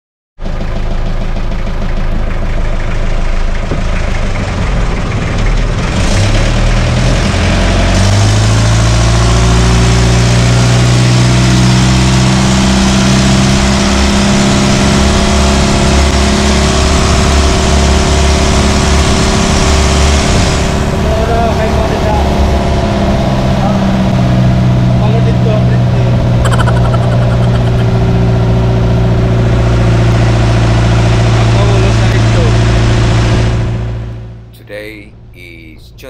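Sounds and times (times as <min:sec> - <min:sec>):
boat engine idling and revving: 0:00.4 - 0:34.5.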